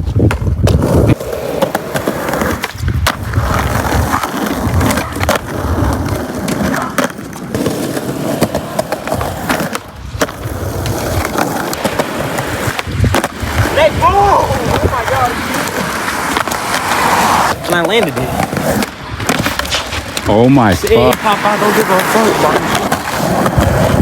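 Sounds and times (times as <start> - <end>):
skateboard clacking on ground: 0.0 - 24.0
skateboard wheels rumbling: 0.0 - 24.0.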